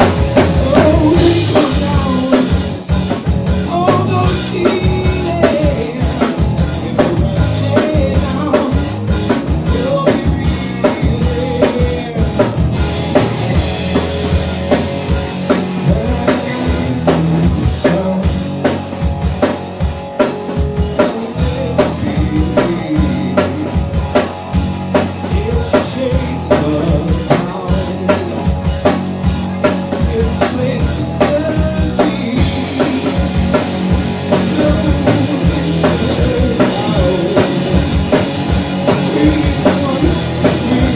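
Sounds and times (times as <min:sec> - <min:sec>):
drum kit beat: 0:00.0 - 0:40.9
live band playing: 0:00.0 - 0:40.9.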